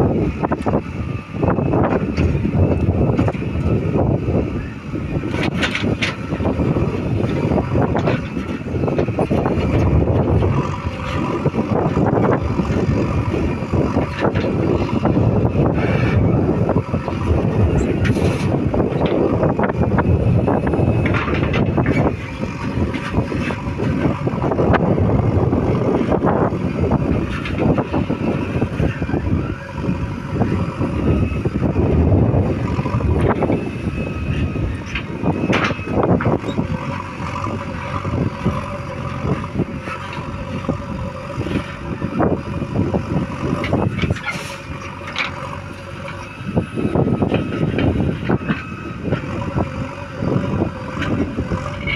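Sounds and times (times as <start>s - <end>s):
diesel engines running: 0.0s - 51.9s.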